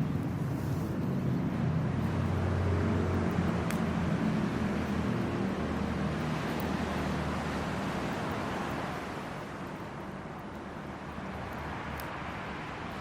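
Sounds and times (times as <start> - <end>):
campfire flames rushing: 0.0 - 13.0
fire crackling: 0.0 - 13.0.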